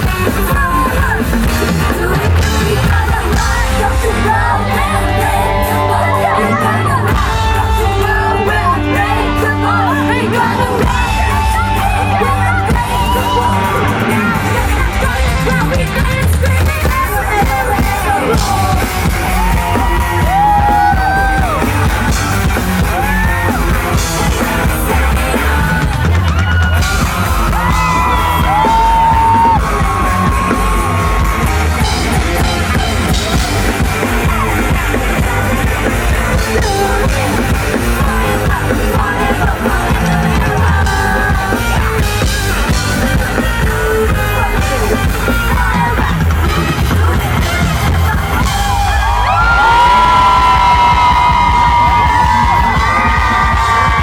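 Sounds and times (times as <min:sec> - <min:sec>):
fans yelling and cheering: 0:00.0 - 0:54.0
pop song over sound system: 0:00.0 - 0:54.0.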